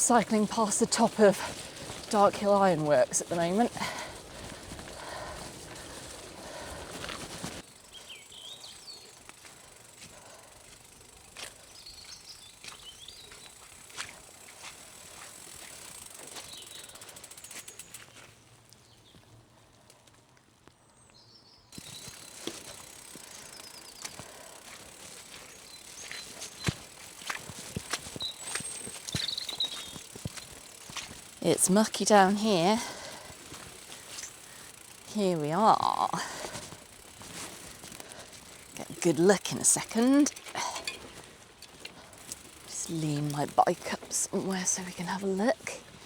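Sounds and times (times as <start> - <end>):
bicycle clicks and rattles: 0.0 - 18.9, 21.7 - 46.0
bicycle tyres crunching gravel: 0.0 - 46.0
small birds chirping: 0.1 - 10.2, 11.2 - 14.7, 15.6 - 19.4, 20.9 - 46.0.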